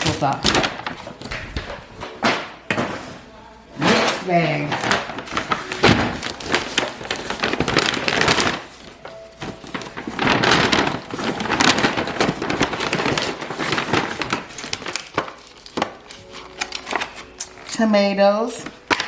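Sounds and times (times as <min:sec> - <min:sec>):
grocery bag crinkling: 0:00.0 - 0:19.0.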